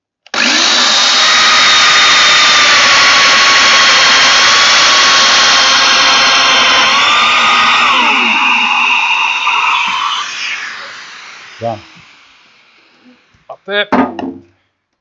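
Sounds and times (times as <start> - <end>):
power joiner whining: 0.3 - 13.4
dust extraction rushing air: 1.0 - 13.3.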